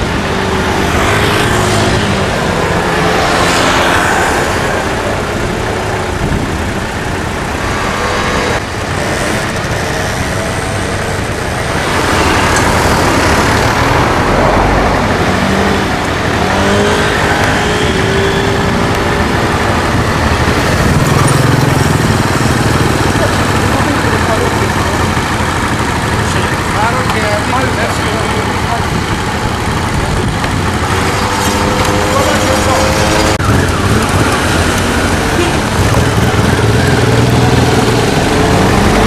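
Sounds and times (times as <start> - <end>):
vehicle engines running: 0.0 - 39.0.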